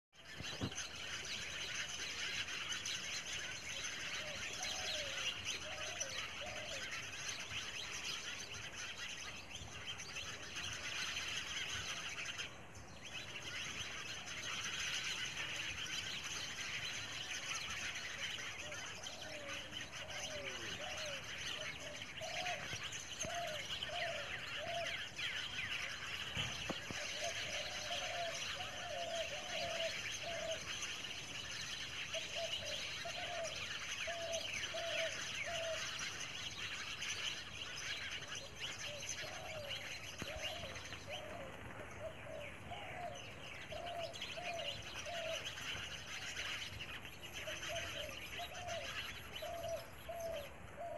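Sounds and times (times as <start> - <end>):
birds chirping: 0.1 - 50.9
low repeated bird call: 0.1 - 50.9.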